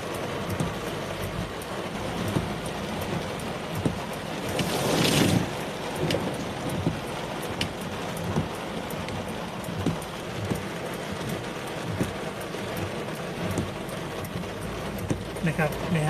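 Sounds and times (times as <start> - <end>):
heavy rain falling: 0.0 - 16.0
raindrops ticking: 0.0 - 16.0.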